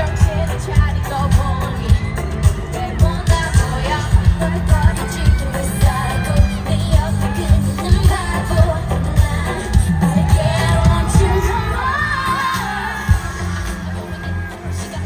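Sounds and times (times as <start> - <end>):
pop concert singing over bass beat: 0.0 - 15.0.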